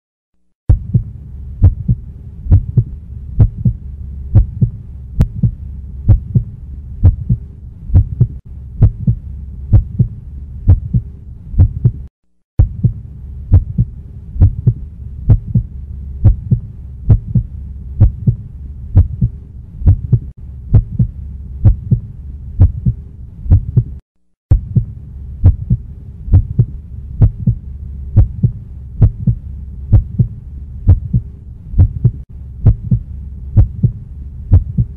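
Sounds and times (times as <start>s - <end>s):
faint low hum: 0.7s - 34.9s
low heartbeat-like double thumps: 0.7s - 34.9s.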